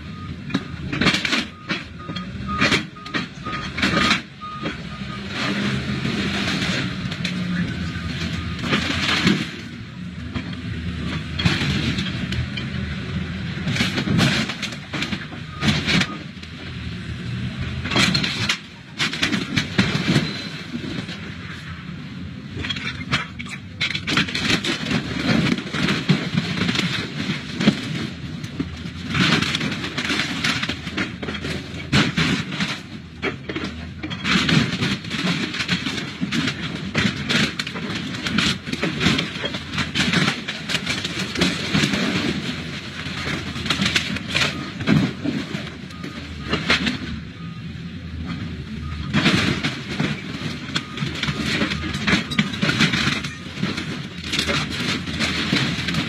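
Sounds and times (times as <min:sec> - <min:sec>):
diesel engine droning: 0:00.0 - 0:56.0
metal crunching and scraping: 0:00.0 - 0:56.0.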